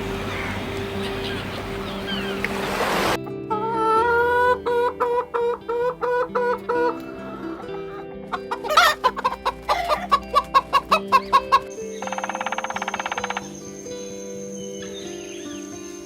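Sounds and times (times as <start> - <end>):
bird calling: 0.0 - 16.0
soft background music: 0.0 - 16.0
bird squawk: 0.1 - 13.8.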